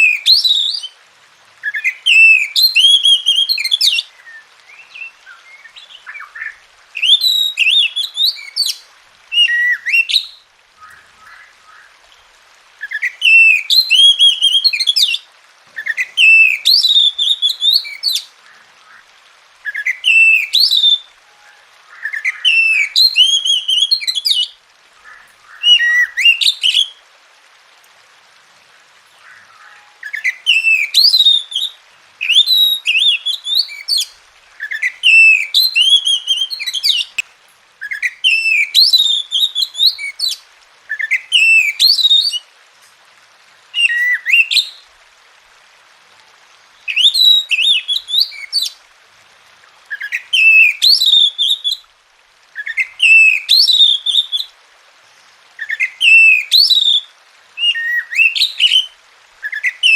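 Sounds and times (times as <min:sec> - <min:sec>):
bird singing warbling whistles: 0:00.0 - 0:01.0, 0:01.6 - 0:11.9, 0:12.8 - 0:15.2, 0:15.8 - 0:19.0, 0:19.6 - 0:27.0, 0:29.2 - 0:37.2, 0:37.8 - 0:42.4, 0:43.8 - 0:44.8, 0:46.9 - 0:48.8, 0:49.9 - 0:51.8, 0:52.6 - 0:54.5, 0:55.6 - 0:59.9.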